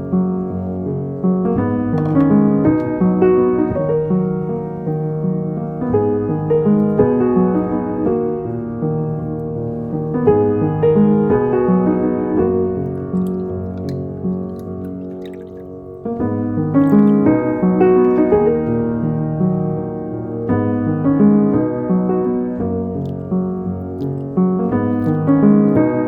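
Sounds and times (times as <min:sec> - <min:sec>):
background piano music: 0:00.0 - 0:26.0.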